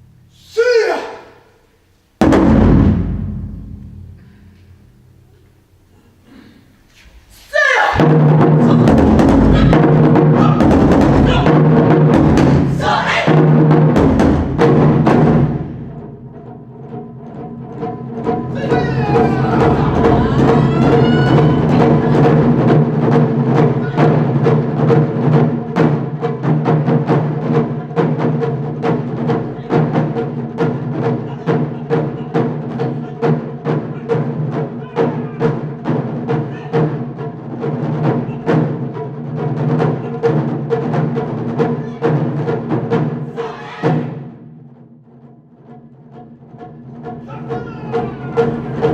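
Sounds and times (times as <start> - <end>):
taiko drums in dense rhythm: 2.2 - 5.3, 8.0 - 48.9.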